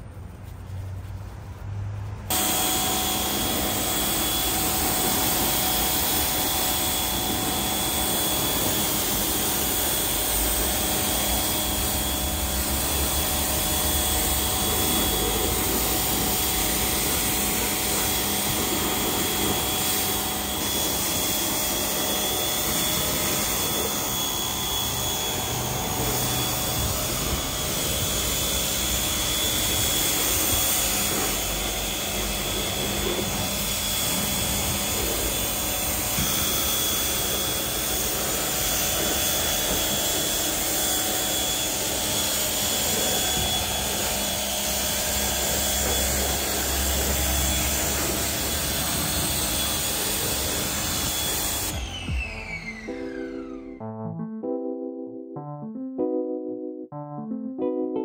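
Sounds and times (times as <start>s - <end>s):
electric tool whining: 2.3s - 53.8s.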